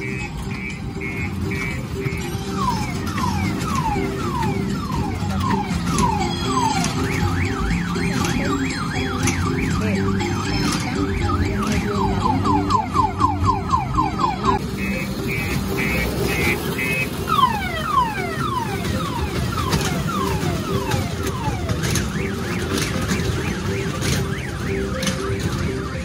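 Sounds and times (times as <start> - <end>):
simple electronic tune: 0.0 - 21.6
electronic siren sound effects: 0.0 - 26.0.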